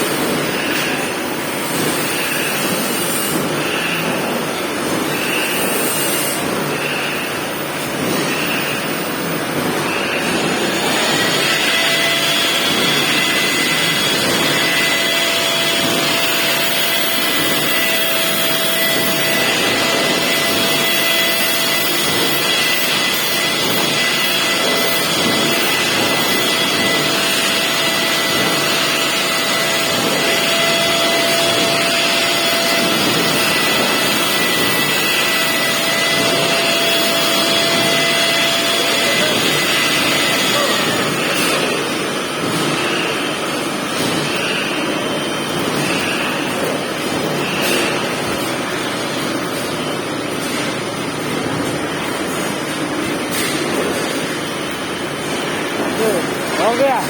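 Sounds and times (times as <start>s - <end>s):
machine whining: 0.0s - 57.0s.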